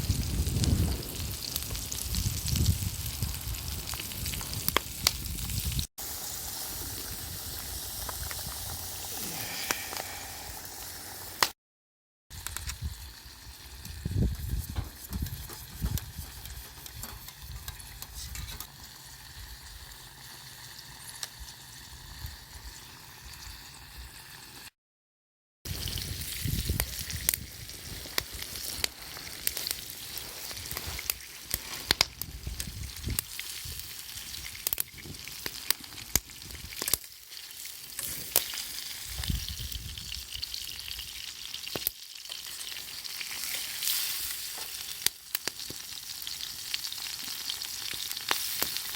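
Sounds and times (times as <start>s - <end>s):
food sizzling and popping: 0.0s - 11.6s, 12.3s - 24.7s, 25.7s - 48.9s.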